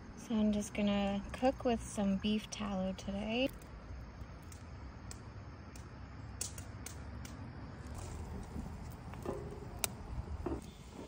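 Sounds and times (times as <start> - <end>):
wood fire crackling: 0.4 - 11.0.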